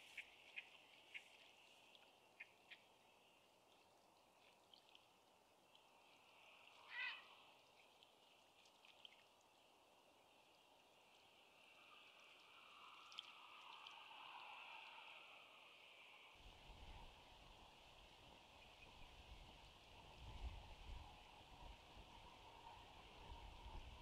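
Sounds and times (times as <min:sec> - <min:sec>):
faint splashes in shallow water: 0:00.0 - 0:24.0.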